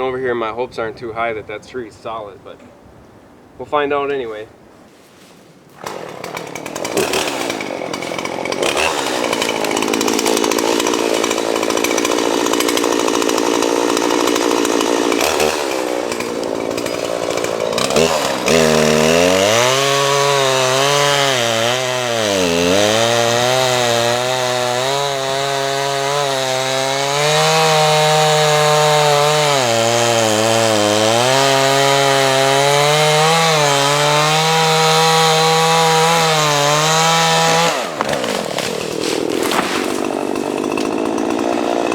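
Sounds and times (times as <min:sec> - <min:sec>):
chainsaw cutting wood: 0:05.7 - 0:41.9.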